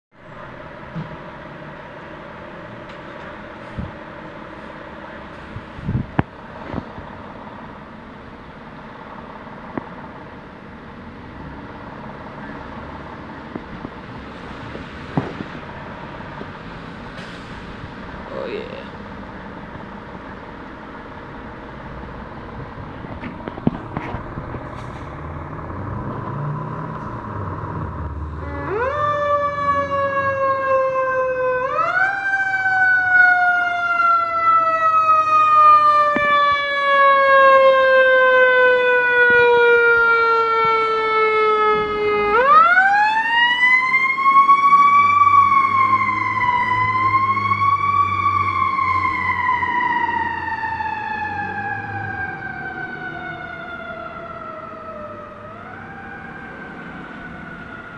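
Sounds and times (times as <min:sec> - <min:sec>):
fire engine motor running: 0:00.2 - 0:26.2, 0:26.9 - 0:57.9.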